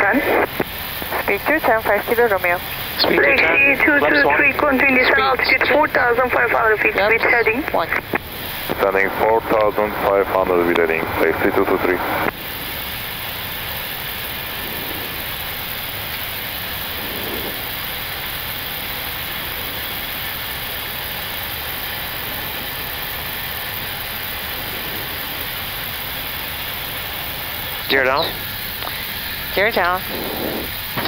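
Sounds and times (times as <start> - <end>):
aircraft engine noise: 0.0 - 31.0.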